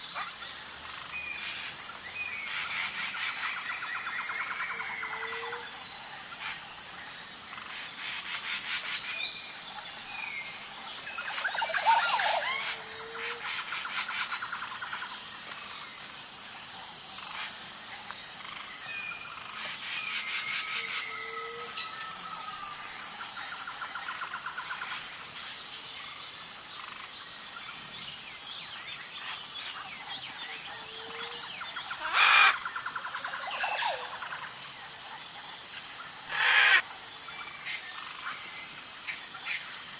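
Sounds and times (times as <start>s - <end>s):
birds calling and trilling: 0.0s - 16.2s, 17.1s - 39.9s
high insect drone: 0.0s - 39.9s.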